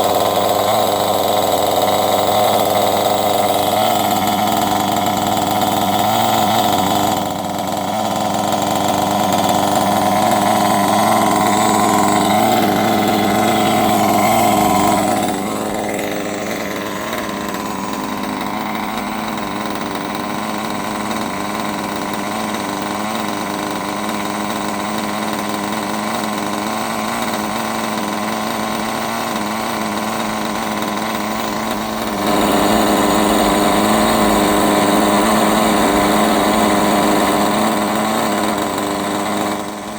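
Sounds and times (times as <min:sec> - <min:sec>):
model buggy nitro engine running: 0:00.0 - 0:39.9.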